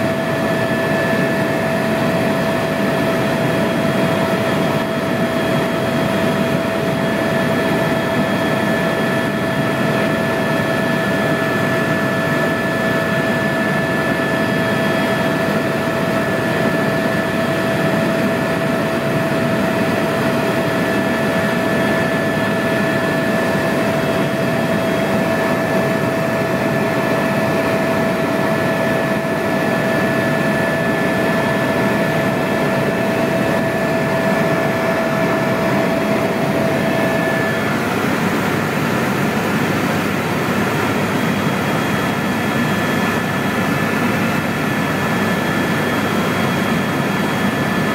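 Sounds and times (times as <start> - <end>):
helicopter cabin drone: 0.0 - 47.9.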